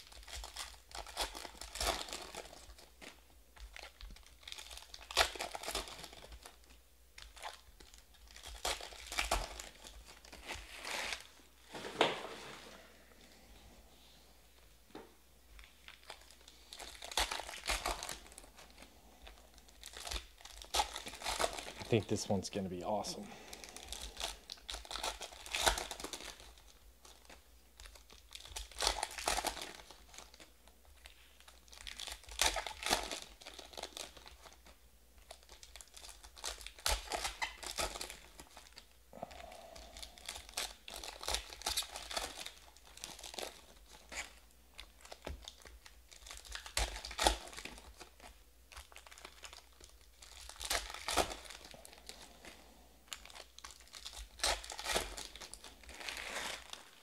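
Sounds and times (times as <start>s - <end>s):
card pack wrappers crinkling and tearing: 0.0s - 11.8s, 15.5s - 57.0s.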